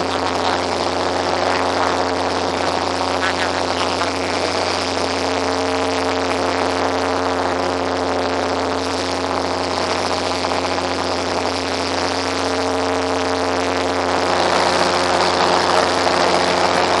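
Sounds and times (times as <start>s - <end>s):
engine-like hum: 0.0s - 17.0s.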